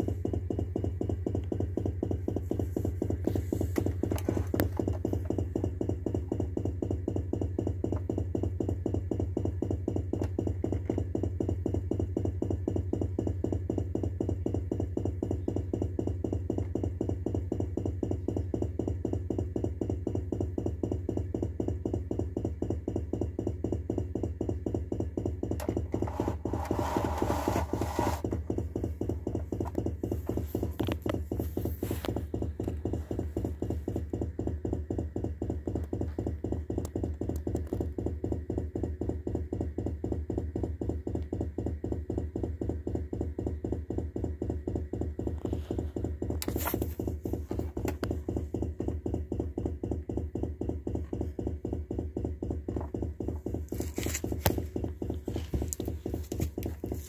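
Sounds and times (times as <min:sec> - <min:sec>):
refrigerator low pulsing noise: 0:00.0 - 0:57.0.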